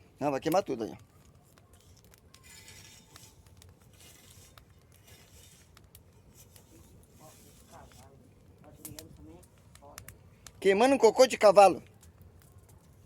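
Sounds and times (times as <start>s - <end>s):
wood bonfire crackling: 0.0s - 13.0s.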